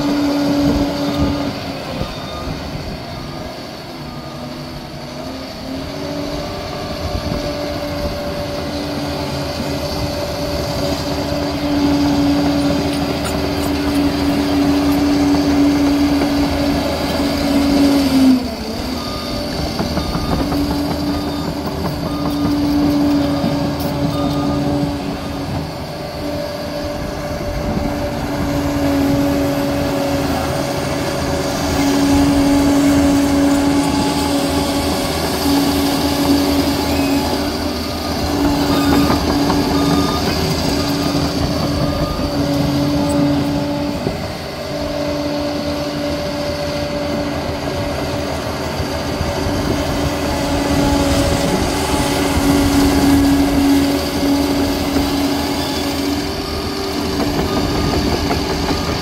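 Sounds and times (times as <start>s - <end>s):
bulldozer diesel engine under load: 0.0s - 59.0s
reversing alarm beeping: 0.0s - 59.0s.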